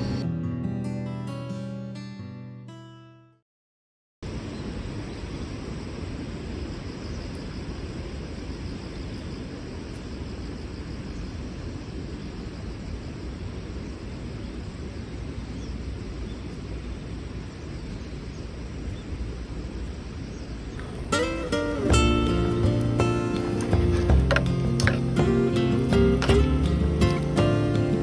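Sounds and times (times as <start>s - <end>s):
low outdoor rumble: 0.0s - 0.2s, 4.2s - 28.0s
light hiss: 4.3s - 28.0s.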